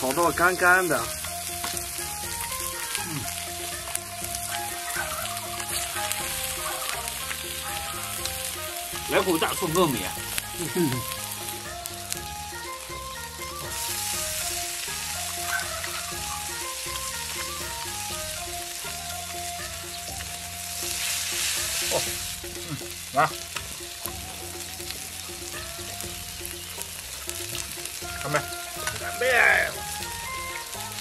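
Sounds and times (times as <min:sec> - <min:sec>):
light background music: 0:00.0 - 0:31.0
meat sizzling on a griddle: 0:00.0 - 0:31.0.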